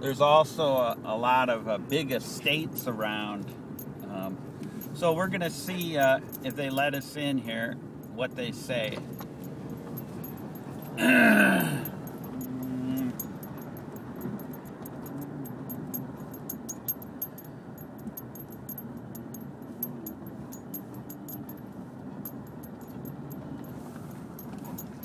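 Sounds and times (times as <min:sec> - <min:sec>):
car road and engine noise: 0:00.0 - 0:25.0
light clicks and jingles: 0:00.0 - 0:25.0.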